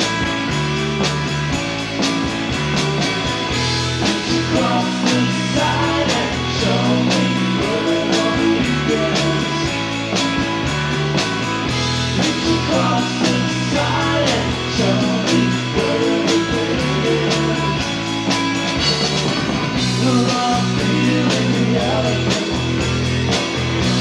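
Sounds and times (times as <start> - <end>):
bass guitar: 0.0 - 24.0
drum kit beat: 0.0 - 24.0
electric guitars: 0.0 - 24.0.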